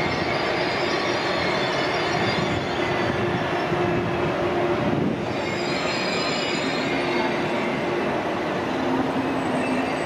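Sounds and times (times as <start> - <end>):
train rolling past: 0.0 - 10.0.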